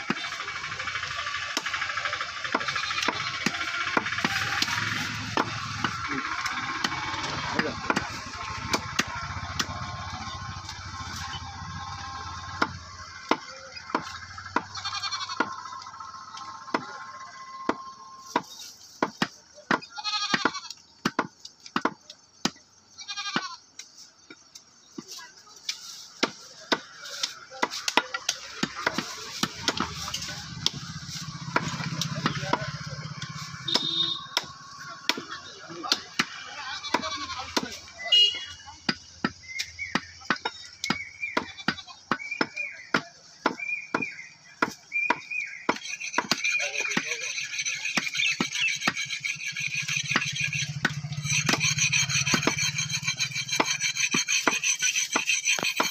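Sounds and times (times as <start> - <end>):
cleavers chopping meat on wood: 0.0 - 22.8, 24.2 - 55.9.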